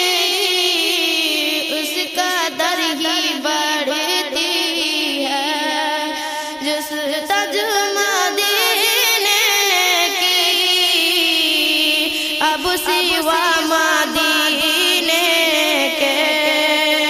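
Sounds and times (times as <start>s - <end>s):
woman singing ornamented notes: 0.0s - 17.0s.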